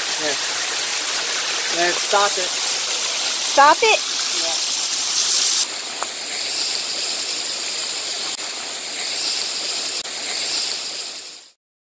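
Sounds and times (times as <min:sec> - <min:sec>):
waterfall splashing onto rocks: 0:00.0 - 0:11.6.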